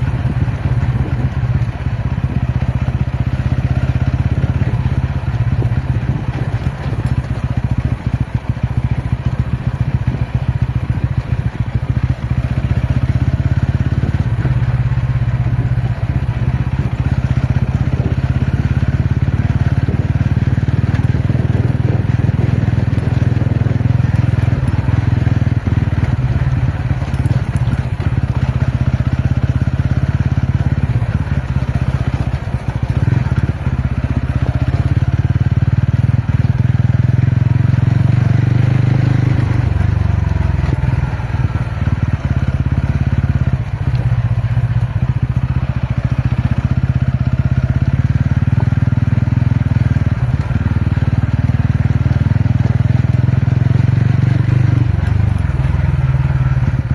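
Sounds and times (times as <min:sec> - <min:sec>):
motorcycle engine running: 0:00.0 - 0:56.9
rough crackle: 0:00.1 - 0:56.9.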